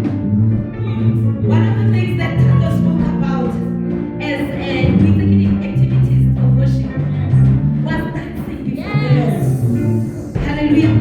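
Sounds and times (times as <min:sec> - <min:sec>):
bass line: 0:00.0 - 0:11.0
drums: 0:00.0 - 0:11.0.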